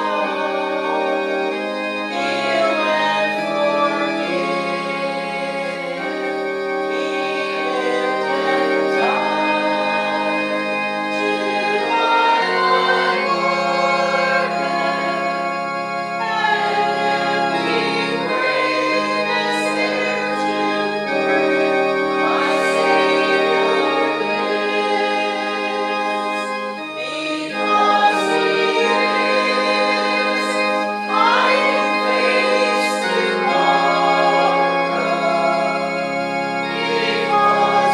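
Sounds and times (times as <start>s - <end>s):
organ chords: 0.0s - 37.9s
voices singing a hymn: 0.0s - 37.9s.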